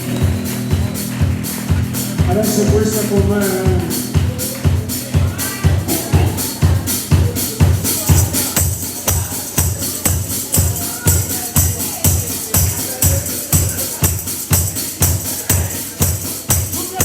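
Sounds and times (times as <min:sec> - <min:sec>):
driving drum beat: 0:00.0 - 0:17.0
live rock band: 0:00.0 - 0:17.0
tambourine shaking: 0:00.0 - 0:17.0.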